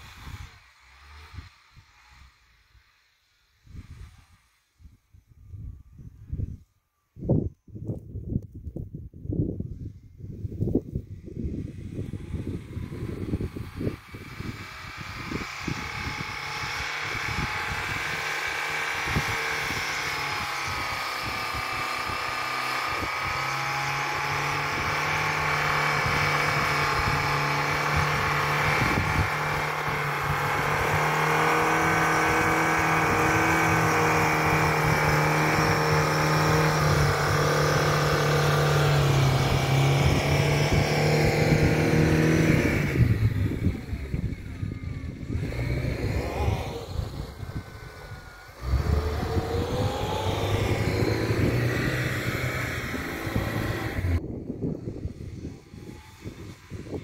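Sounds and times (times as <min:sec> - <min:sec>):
car engine running under load: 0:11.2 - 0:57.0.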